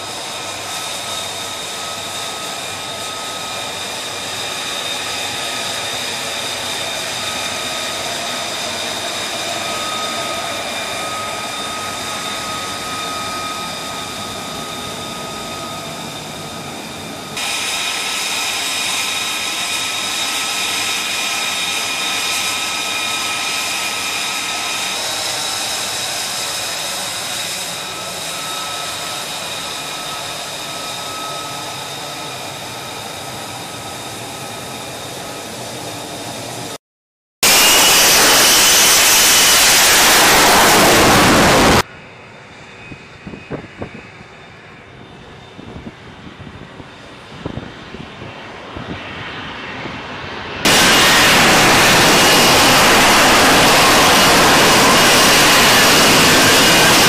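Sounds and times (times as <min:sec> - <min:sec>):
jet engine roar with whine: 0:00.0 - 0:36.8, 0:37.4 - 0:57.0.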